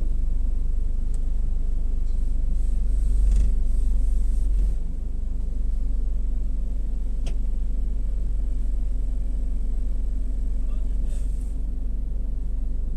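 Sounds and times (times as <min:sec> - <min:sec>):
car wash low rumble: 0:00.0 - 0:12.9.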